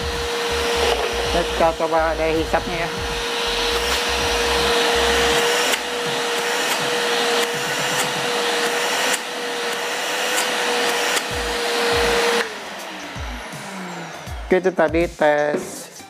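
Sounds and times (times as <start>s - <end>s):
vacuum cleaner motor whine: 0.0s - 15.4s.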